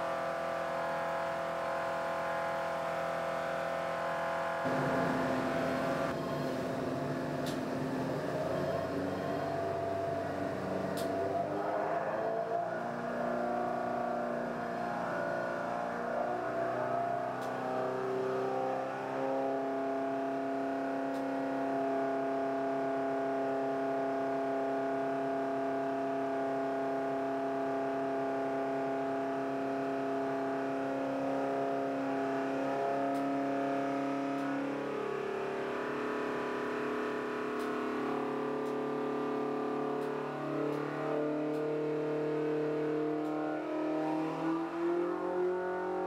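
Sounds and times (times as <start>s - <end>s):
racing engine running on a dynamometer: 0.0s - 46.0s.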